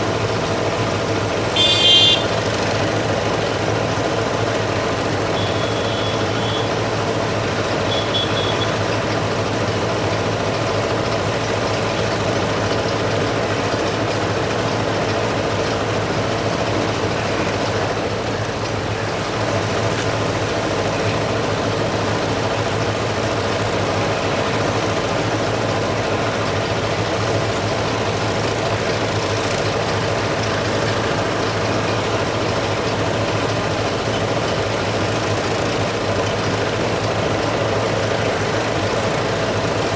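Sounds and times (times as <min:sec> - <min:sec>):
diesel engines idling: 0:00.0 - 0:39.9.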